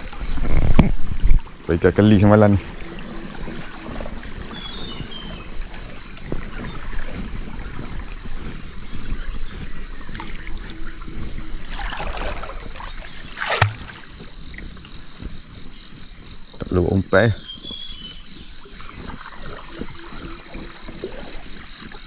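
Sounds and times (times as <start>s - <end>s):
water sloshing and trickling: 0.0s - 15.3s, 16.9s - 22.0s
insects droning: 0.0s - 22.0s.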